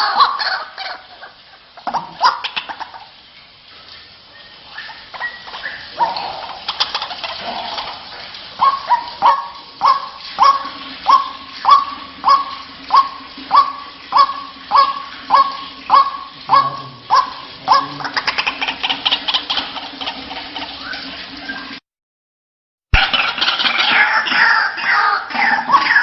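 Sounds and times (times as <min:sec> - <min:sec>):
waterhen calling: 0:00.0 - 0:21.8, 0:23.0 - 0:26.0.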